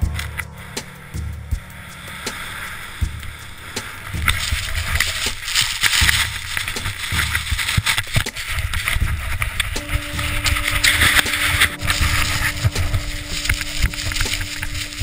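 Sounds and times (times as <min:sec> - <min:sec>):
blowing snow hiss: 0:00.0 - 0:15.0
wind buffeting microphone: 0:00.0 - 0:15.0.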